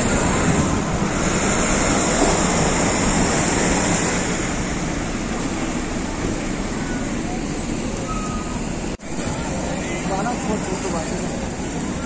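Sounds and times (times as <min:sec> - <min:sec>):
road traffic going by: 0:00.0 - 0:12.0.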